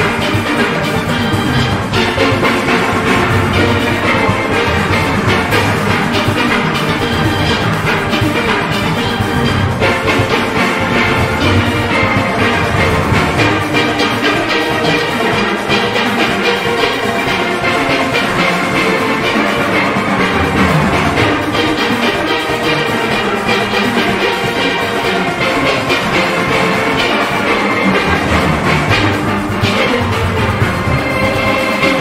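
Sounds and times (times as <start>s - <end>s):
drums and percussion: 0.0s - 32.0s
steelpans playing: 0.0s - 32.0s.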